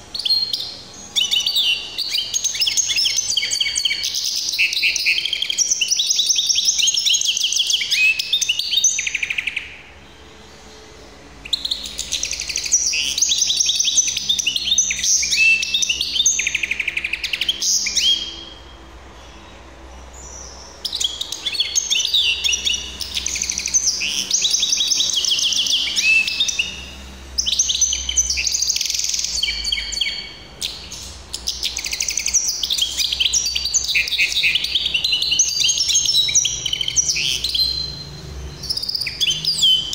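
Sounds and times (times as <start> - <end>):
bird singing high trills: 0.0 - 39.9.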